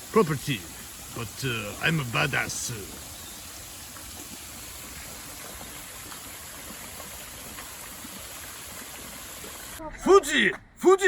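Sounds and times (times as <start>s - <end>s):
river water rushing over a fall: 0.0s - 9.8s.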